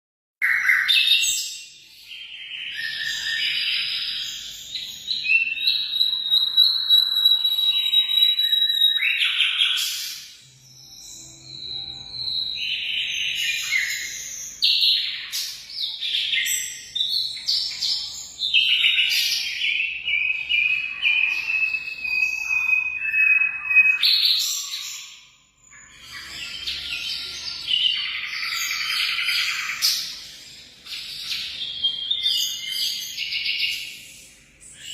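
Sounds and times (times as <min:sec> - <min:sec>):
bird chirping and trilling: 0:00.4 - 0:34.9
bird whistle: 0:02.3 - 0:17.5, 0:18.5 - 0:34.0.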